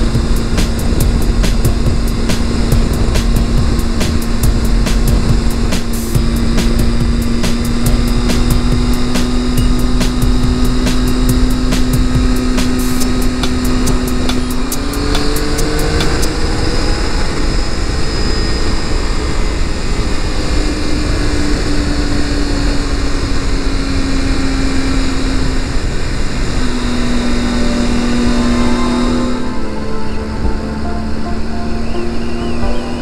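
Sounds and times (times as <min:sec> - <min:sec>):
motorcycle engine accelerating: 0:00.0 - 0:33.0
wind and road noise: 0:00.0 - 0:33.0.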